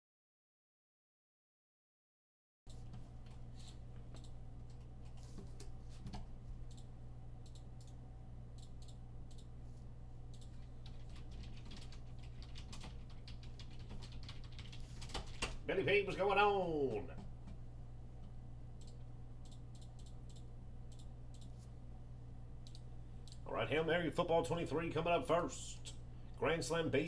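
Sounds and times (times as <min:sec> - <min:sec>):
steady low hum: 0:02.7 - 0:27.0.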